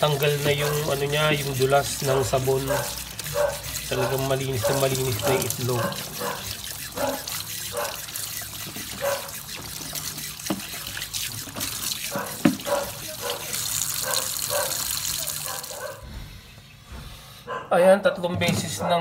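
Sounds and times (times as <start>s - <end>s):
hands rubbing eggs: 0.0s - 15.8s
tap water running into sink: 0.0s - 16.0s.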